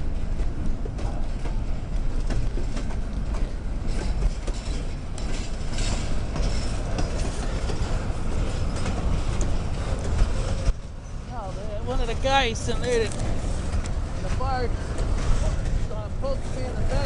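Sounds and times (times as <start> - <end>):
train cars rumbling past: 0.0 - 17.0
wheels clicking over rails: 0.0 - 17.0.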